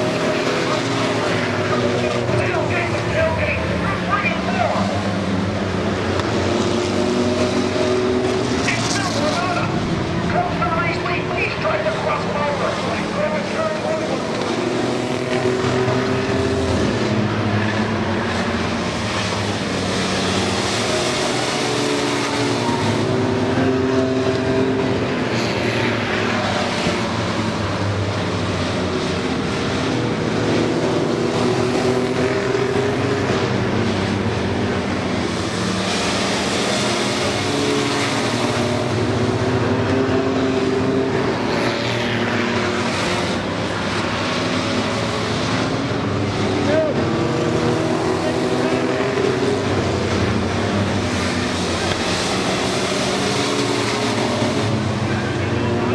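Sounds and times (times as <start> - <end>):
race truck engines drone: 0.0 - 55.9.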